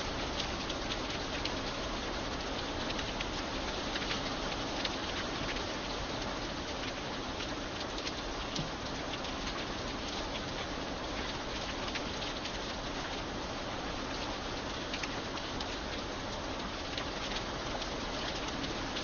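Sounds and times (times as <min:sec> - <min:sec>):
raindrops ticking: 0:00.0 - 0:19.0
steady rain hiss: 0:00.0 - 0:19.0.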